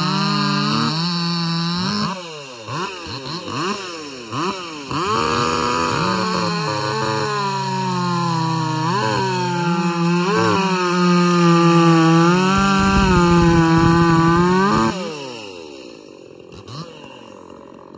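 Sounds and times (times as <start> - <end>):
chainsaw cutting wood at high revs: 0.0 - 17.9.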